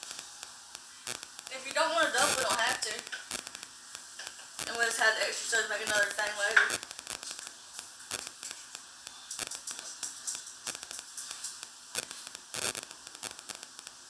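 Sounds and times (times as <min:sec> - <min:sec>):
food frying in a pan: 0:00.0 - 0:14.0.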